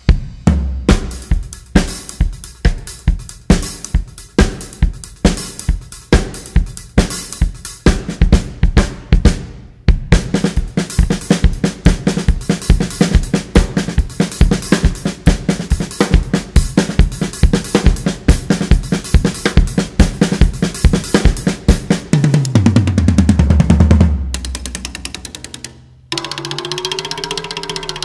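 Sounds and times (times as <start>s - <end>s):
drum kit playing groove: 0.0s - 28.0s.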